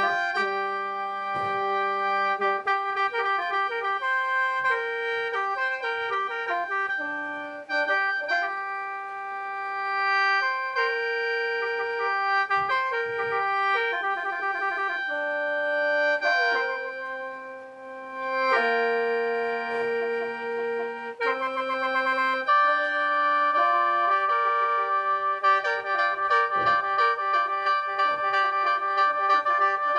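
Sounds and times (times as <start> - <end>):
bamboo mouth organ playing: 0.0 - 29.9.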